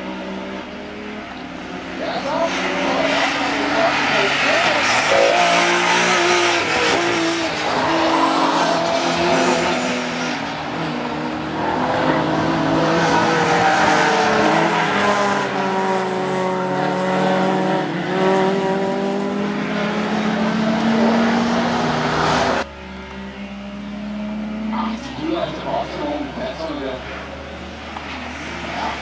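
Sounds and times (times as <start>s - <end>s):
race car engines passing: 0.0s - 29.0s.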